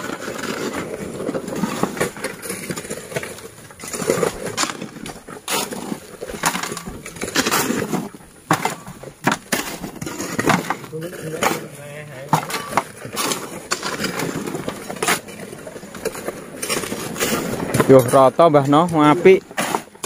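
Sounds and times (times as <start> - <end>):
shovels scraping sand and soil: 0.0 - 20.0.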